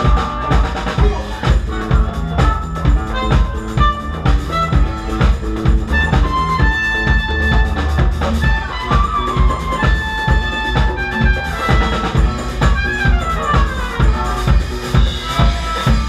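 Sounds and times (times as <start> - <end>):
bass: 0.0 - 16.0
drum kit beat: 0.0 - 16.0.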